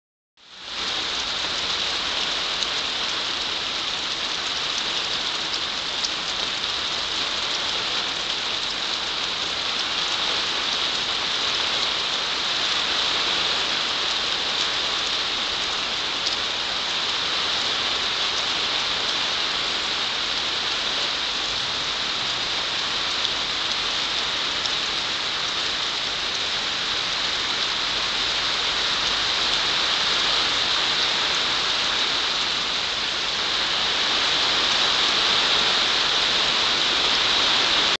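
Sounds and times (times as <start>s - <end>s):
rain falling on a pond: 0.4s - 37.9s.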